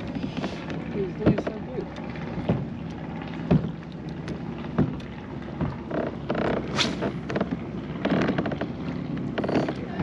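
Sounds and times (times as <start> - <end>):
knocks and thumps on kayak: 0.3 - 10.0.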